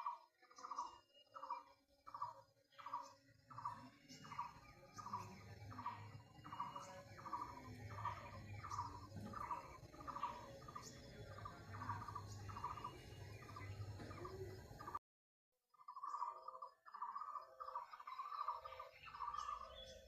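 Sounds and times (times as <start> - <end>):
high bird chirps: 0.0 - 15.0, 15.8 - 20.0.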